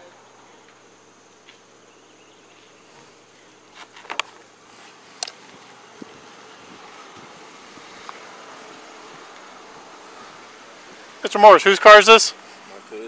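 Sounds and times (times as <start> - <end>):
faint insect drone: 0.0 - 13.0.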